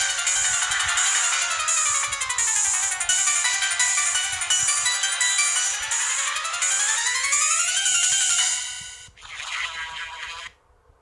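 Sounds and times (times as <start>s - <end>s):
phone ringtone synth melody: 0.0s - 10.4s.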